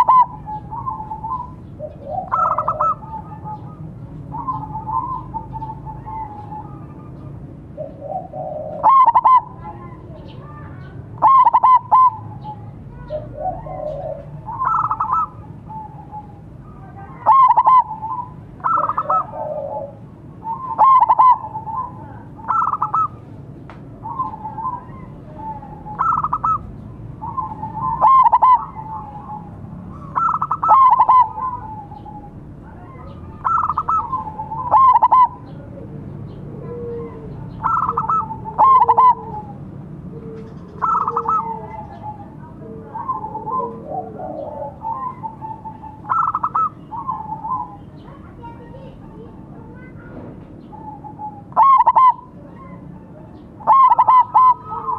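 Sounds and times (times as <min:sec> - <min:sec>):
doves cooing: 0:00.0 - 0:23.3, 0:24.0 - 0:49.4, 0:50.6 - 0:54.9.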